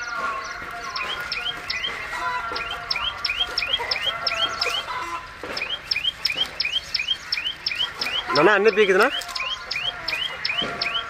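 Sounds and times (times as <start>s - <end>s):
drawn-out bird calls: 0.0s - 11.0s
small bird chirping rapidly: 0.0s - 11.0s.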